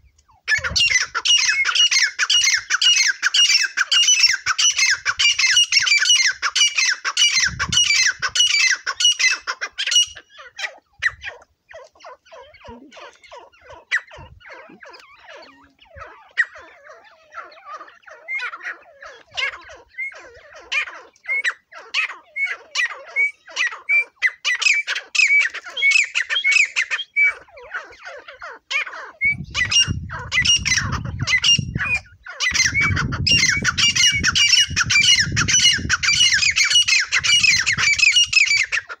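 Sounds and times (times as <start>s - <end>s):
francolins calling: 0.0s - 39.0s.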